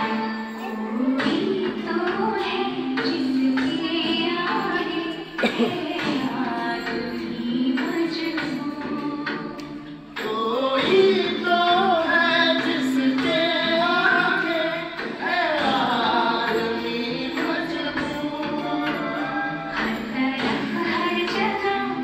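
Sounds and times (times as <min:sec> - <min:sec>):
song with singing voices: 0:00.0 - 0:22.0.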